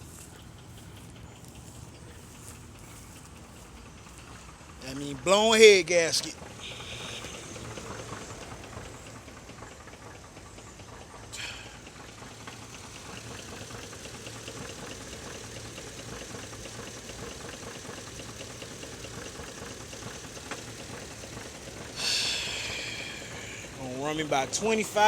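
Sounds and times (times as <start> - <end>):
engine idling with rod knock: 0.0 - 25.0.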